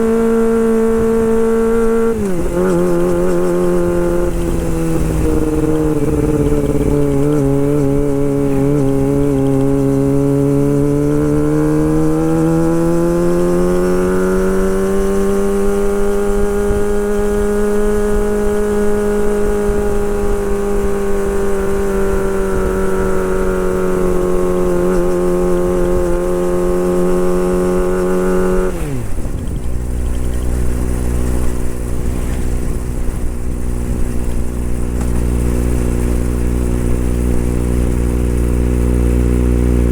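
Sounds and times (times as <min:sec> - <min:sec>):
motorcycle engine idling: 0:00.0 - 0:39.9
motorcycle engine revving high: 0:00.0 - 0:39.9.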